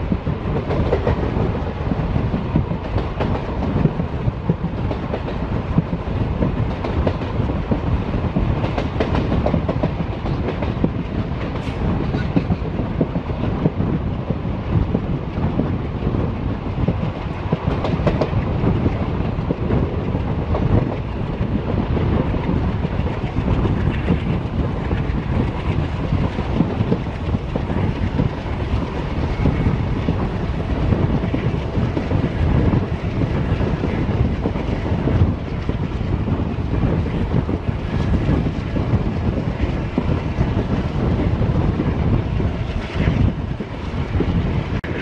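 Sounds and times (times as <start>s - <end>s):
train rumbling on board: 0.0s - 45.0s.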